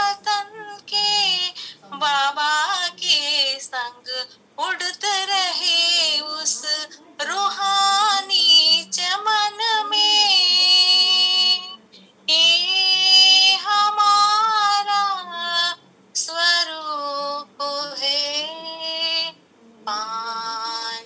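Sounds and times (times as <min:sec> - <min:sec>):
woman singing devotional song: 0:00.0 - 0:21.0.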